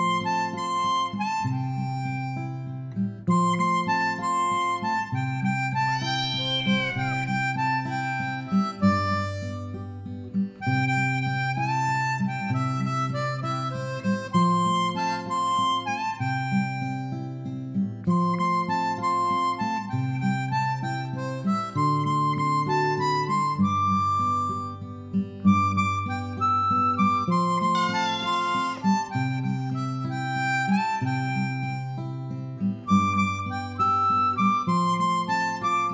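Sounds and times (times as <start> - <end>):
plucked acoustic guitar: 0.0 - 20.2, 21.5 - 35.9
harmonica slow melody: 0.0 - 35.9.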